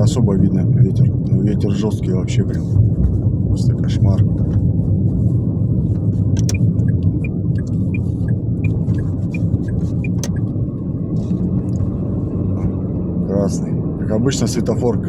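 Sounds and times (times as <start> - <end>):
car rumble inside cabin: 0.0 - 15.0.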